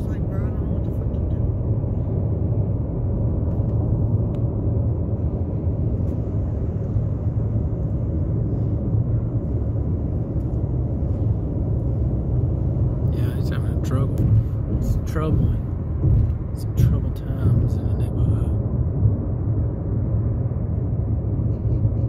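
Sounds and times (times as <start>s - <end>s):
car driving at highway speed: 0.0s - 22.0s.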